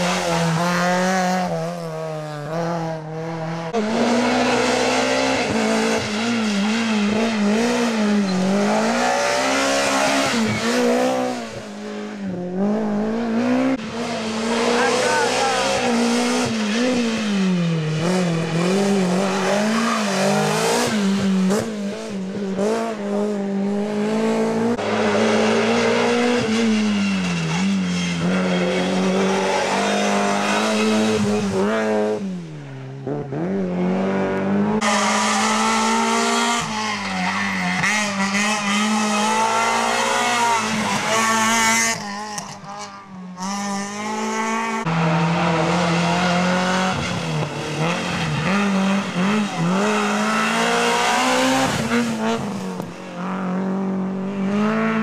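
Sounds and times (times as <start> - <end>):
rally car engines revving past: 0.0 - 55.0.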